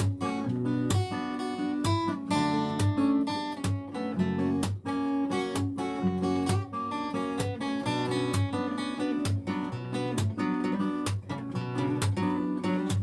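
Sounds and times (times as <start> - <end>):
acoustic guitar strumming: 0.0 - 13.0
guitar melody notes: 0.0 - 13.0.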